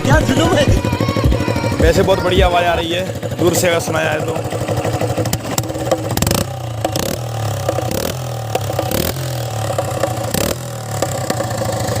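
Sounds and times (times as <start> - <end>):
exhaust cracks: 0.0 - 12.0
motorcycle engine running: 0.0 - 12.0.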